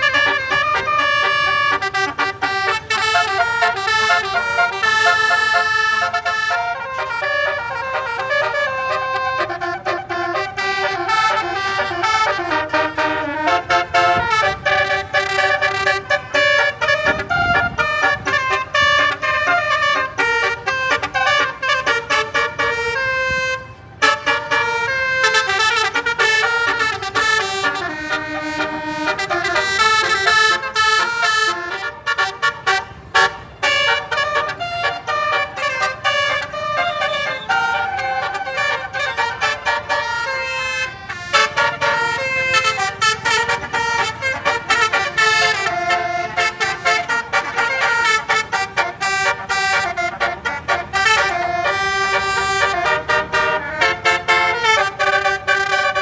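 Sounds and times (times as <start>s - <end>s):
multi-tone vehicle horn tune: 0.0s - 56.0s.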